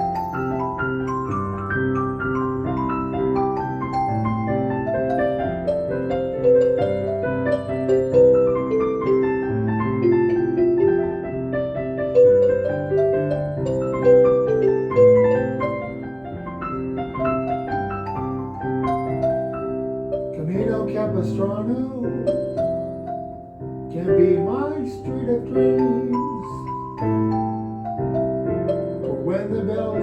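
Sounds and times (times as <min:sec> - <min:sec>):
piano melody over chords: 0:00.0 - 0:30.0.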